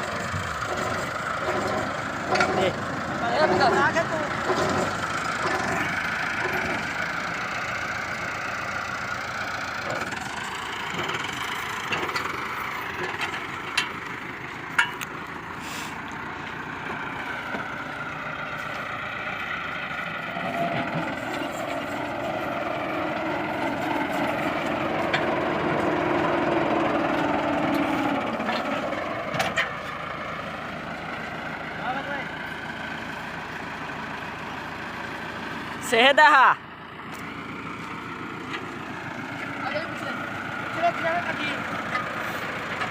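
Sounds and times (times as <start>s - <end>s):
heavy machine engine running: 0.0s - 42.9s.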